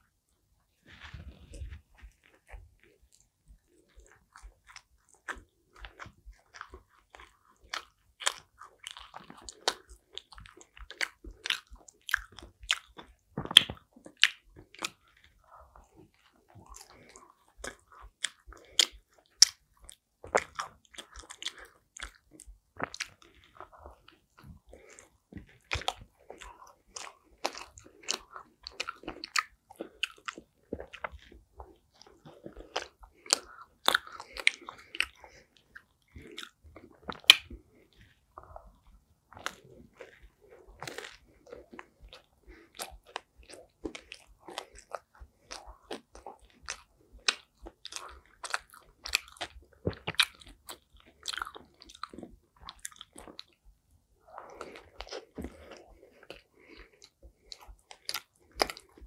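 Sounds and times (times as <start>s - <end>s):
wet chewing: 0.9s - 59.0s
teeth biting crust: 3.8s - 53.6s, 54.2s - 59.0s.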